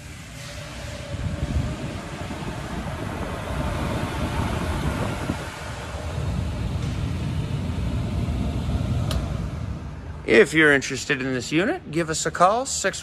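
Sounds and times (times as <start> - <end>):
dust collector running: 0.0 - 12.0.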